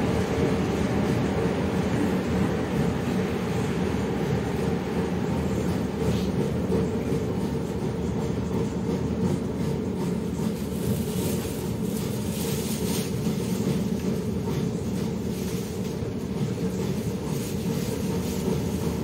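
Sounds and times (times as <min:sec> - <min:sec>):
bus engine droning: 0:00.0 - 0:19.0.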